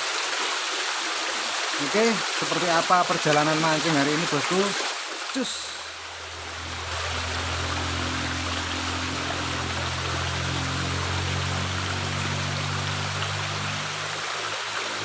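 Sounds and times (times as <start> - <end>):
water rushing through culvert: 0.0 - 15.0.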